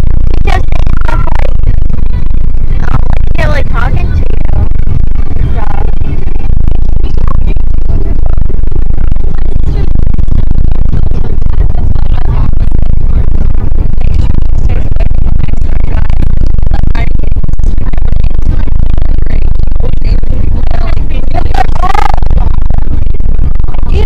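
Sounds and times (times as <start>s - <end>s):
van interior rumble: 0.0s - 24.0s.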